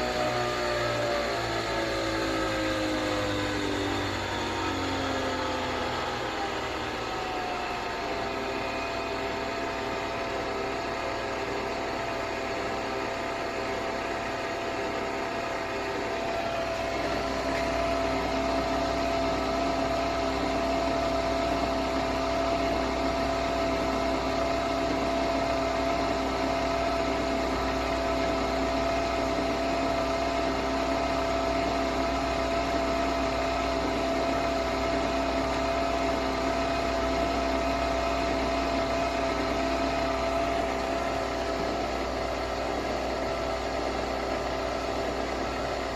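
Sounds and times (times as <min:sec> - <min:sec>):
coffee machine motor and pump hum: 0:00.0 - 0:45.9.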